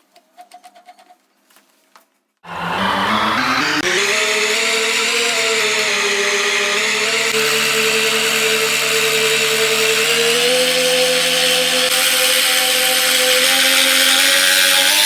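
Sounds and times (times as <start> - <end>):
small electric motor whining: 2.5 - 15.0.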